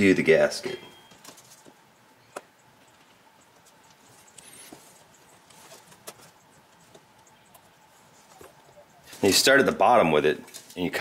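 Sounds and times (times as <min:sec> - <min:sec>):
light rustling and scratching: 0:01.1 - 0:01.8, 0:02.8 - 0:11.0.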